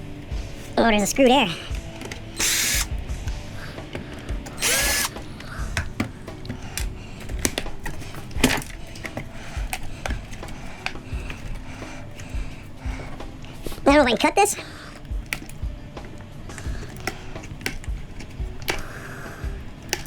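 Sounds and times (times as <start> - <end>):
parts clicking and knocking: 0.0 - 20.0
power drill spinning: 0.0 - 20.0.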